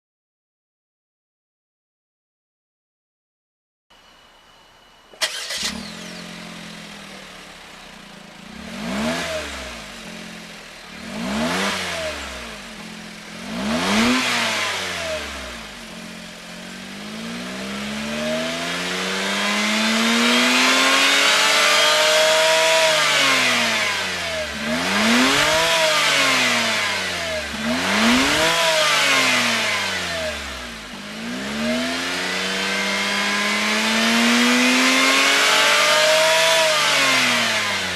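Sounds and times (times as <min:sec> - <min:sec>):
car engine idling and revving: 0:04.0 - 0:37.9
car engine starting: 0:05.0 - 0:37.9.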